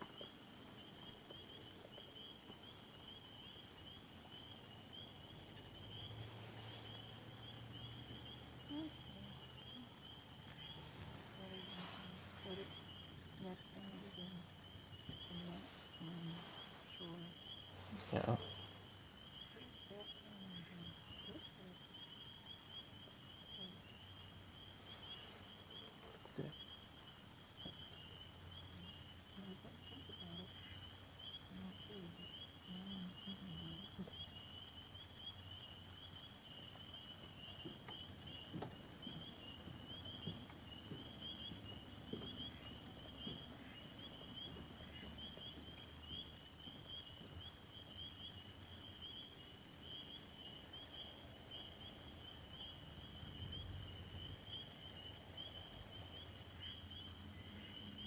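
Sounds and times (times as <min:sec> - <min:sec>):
distant animal chorus trilling: 0:00.0 - 0:58.0.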